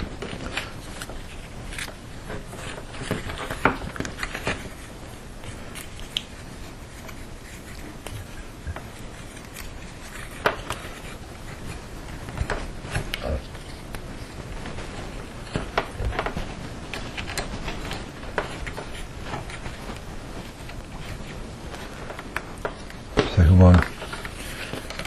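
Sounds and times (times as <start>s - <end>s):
wires rustling and scraping: 0.0s - 25.0s.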